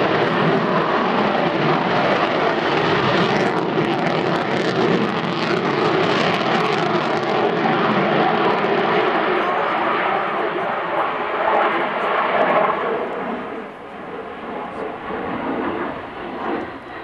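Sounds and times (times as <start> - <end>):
jet engine roar overhead: 0.0 - 17.0.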